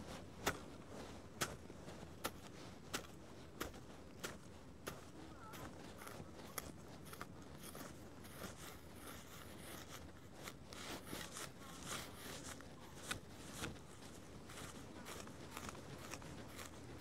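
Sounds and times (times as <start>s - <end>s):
hand blade cutting turf: 0.0s - 17.0s.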